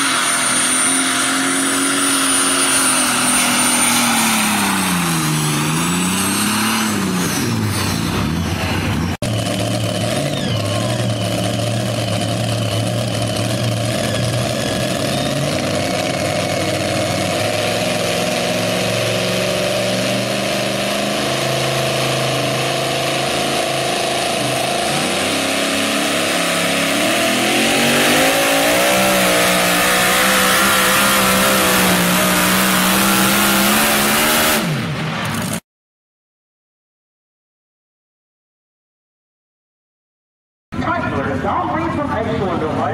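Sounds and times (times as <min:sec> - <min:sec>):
pulling tractor engine: 0:00.0 - 0:35.6.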